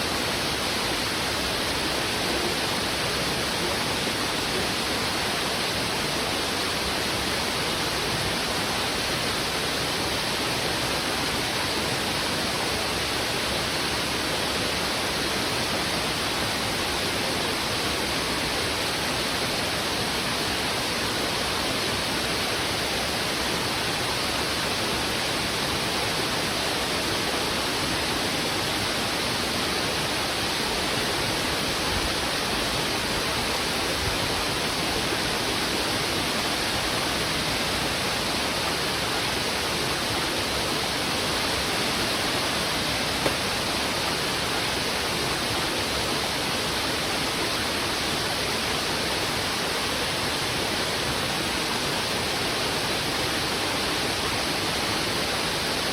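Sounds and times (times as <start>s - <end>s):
water rushing over rocks: 0.0s - 55.9s.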